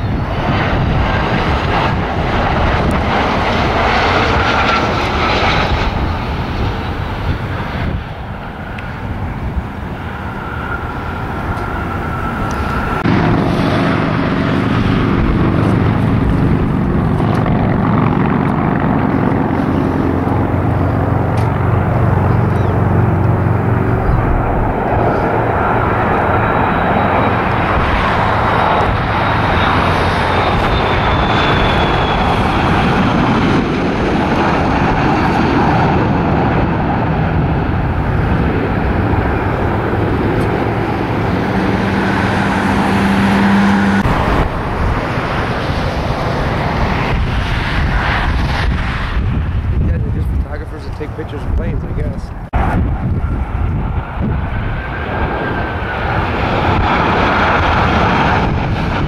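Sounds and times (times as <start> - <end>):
high engine whine falling: 0.0 - 59.0
jet airliner rushing past: 0.0 - 59.0.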